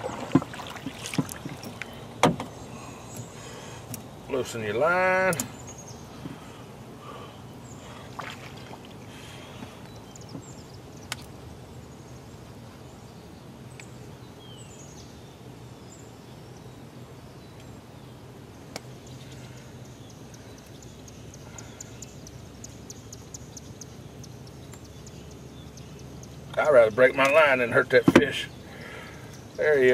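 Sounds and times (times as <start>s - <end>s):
low background hum: 0.0s - 29.9s.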